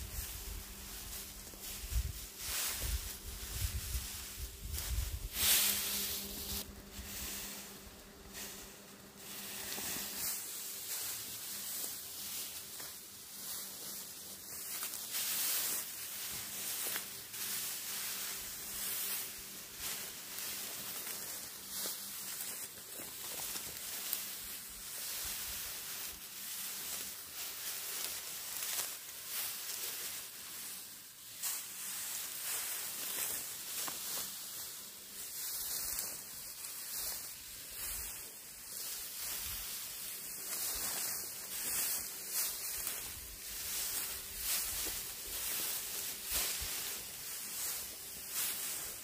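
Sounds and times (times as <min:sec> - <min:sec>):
dry straw rustling and crackling: 0:00.0 - 0:49.0
footsteps through stubble: 0:00.0 - 0:49.0.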